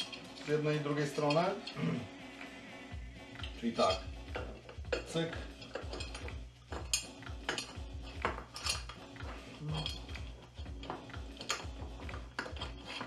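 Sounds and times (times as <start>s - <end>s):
small metal parts clinking: 0.0s - 1.8s, 3.4s - 13.0s.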